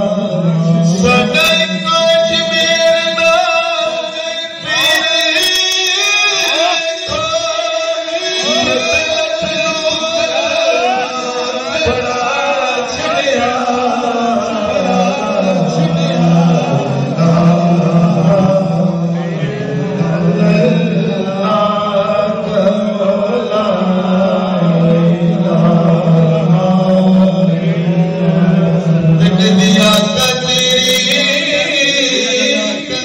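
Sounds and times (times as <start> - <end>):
man singing devotional verses: 0.0 - 33.0.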